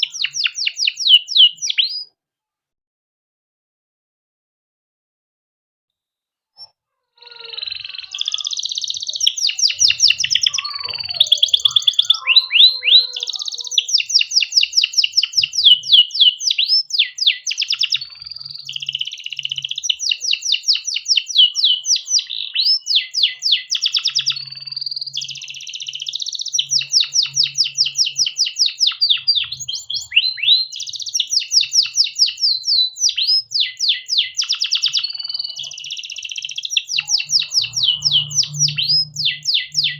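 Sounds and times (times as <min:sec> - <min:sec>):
canary singing: 0:00.0 - 0:02.1, 0:06.6 - 0:39.9.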